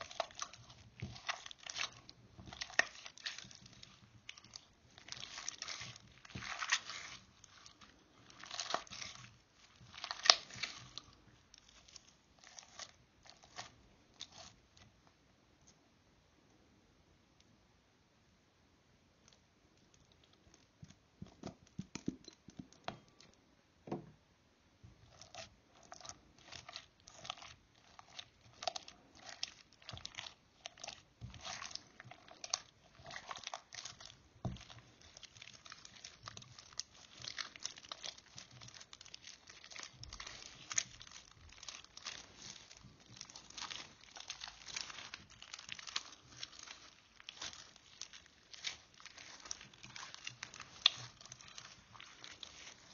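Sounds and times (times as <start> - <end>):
slime squelching and clicking: 0.0 - 14.8, 25.0 - 52.9.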